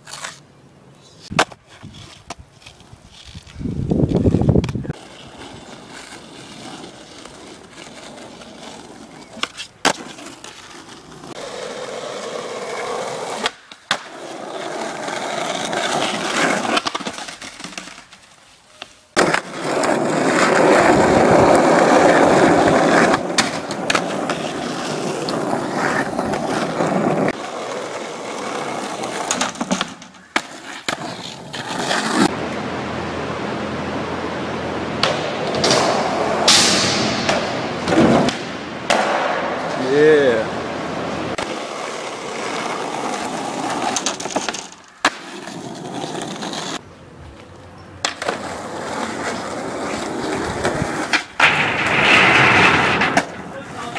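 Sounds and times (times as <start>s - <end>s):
skateboard wheels rolling on asphalt: 0.0s - 53.9s
skateboard clacking: 4.5s - 18.2s, 18.8s - 32.6s, 34.8s - 46.8s, 47.4s - 53.9s.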